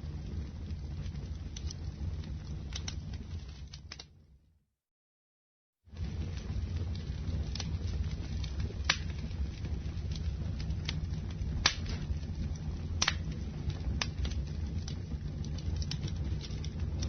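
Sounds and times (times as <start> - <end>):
campfire crackling and popping: 0.0 - 4.2, 5.9 - 17.0
flames rumbling: 0.0 - 4.4, 5.8 - 17.0.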